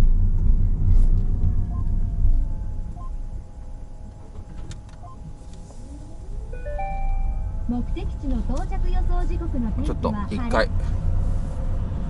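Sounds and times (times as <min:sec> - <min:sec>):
car driving rumble inside cabin: 0:00.0 - 0:12.0
faint steady tones: 0:00.1 - 0:11.5.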